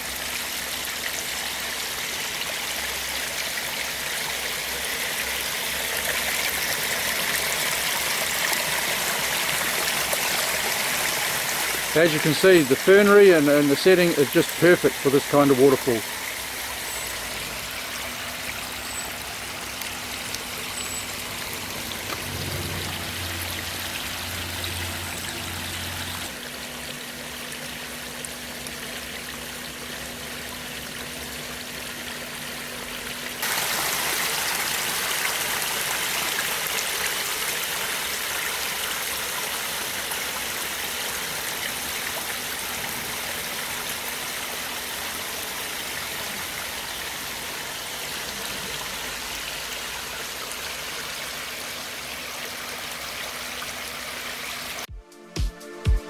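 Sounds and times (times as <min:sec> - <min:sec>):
water splashing over waterfall: 0:00.0 - 0:54.9.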